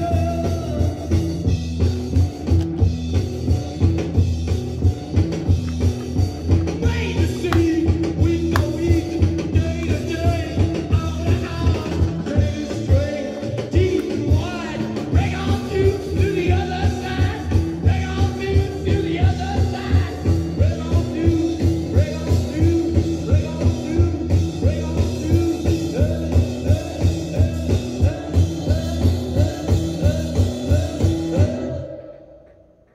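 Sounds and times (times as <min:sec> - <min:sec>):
rock song with singing: 0:00.0 - 0:32.9.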